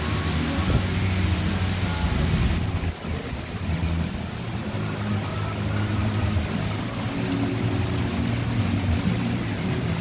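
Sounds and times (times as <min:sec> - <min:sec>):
heavy rain on water and deck: 0:00.0 - 0:10.0
low engine drone: 0:00.0 - 0:10.0.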